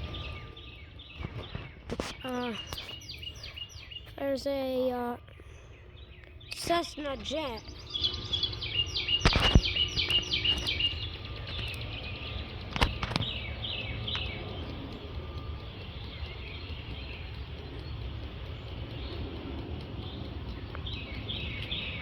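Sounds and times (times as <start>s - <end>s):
low background rumble: 0.0s - 22.0s
small bird chirping: 0.0s - 22.0s.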